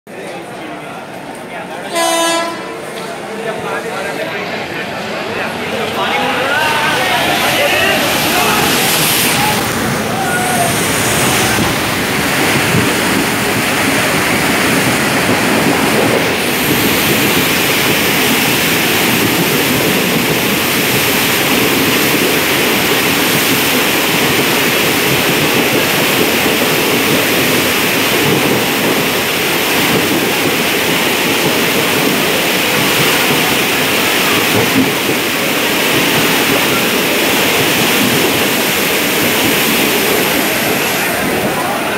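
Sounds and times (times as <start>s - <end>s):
train churning through water: 0.1s - 41.9s.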